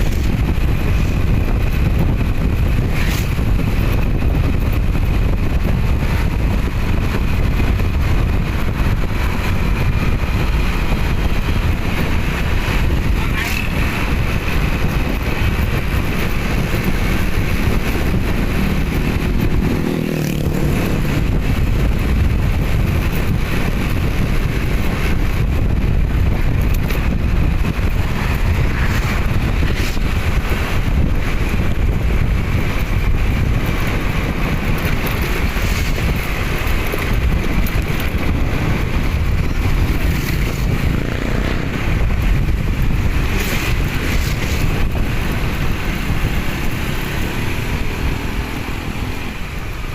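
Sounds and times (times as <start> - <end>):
vehicle and road noise: 0.0 - 49.9
wind buffeting microphone: 0.0 - 49.9.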